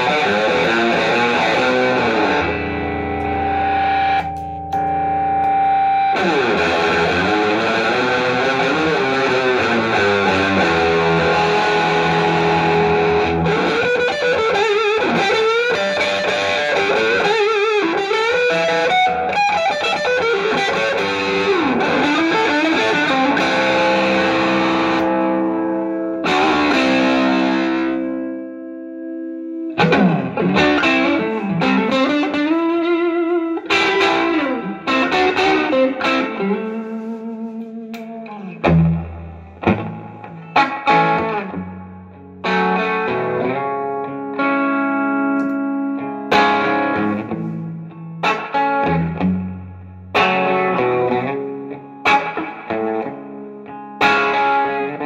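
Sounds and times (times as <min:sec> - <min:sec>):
electric guitar bending notes: 0:00.0 - 0:55.0.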